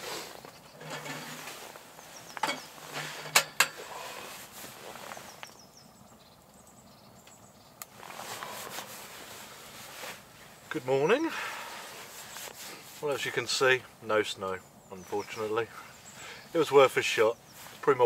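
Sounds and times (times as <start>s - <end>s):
rustling of wood and clothing: 0.0s - 6.1s, 7.3s - 13.9s, 14.5s - 18.0s.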